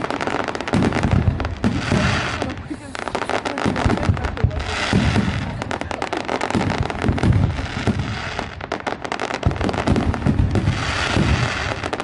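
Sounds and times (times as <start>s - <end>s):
fireworks crackling pops: 0.0s - 12.0s
fireworks low booms: 0.0s - 12.0s.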